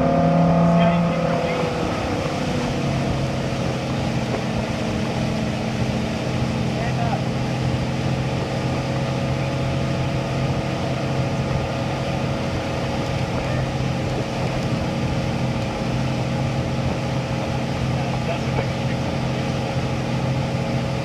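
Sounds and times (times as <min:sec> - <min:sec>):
motorboat engine humming: 0:00.0 - 0:21.0
rushing water of wake: 0:00.0 - 0:21.0.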